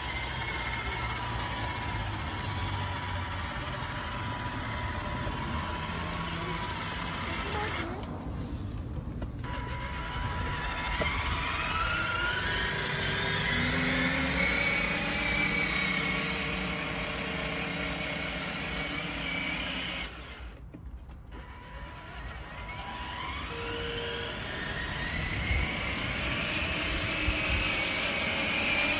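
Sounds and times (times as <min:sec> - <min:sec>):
toy truck electric motor whining: 0:00.0 - 0:08.1, 0:09.4 - 0:20.6, 0:21.3 - 0:28.9.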